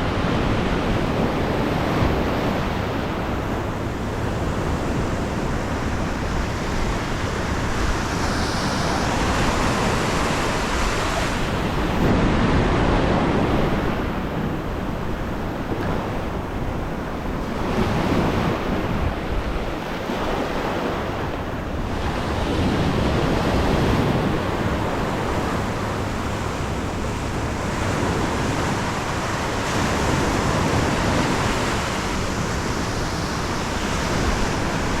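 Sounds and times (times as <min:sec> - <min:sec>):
water rushing: 0:00.0 - 0:35.0
wind buffeting microphone: 0:00.0 - 0:35.0.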